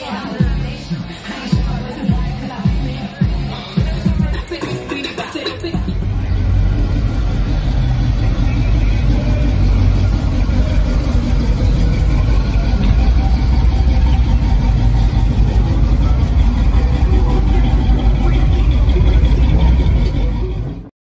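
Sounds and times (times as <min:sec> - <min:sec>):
car engine idling: 0:03.8 - 0:20.9.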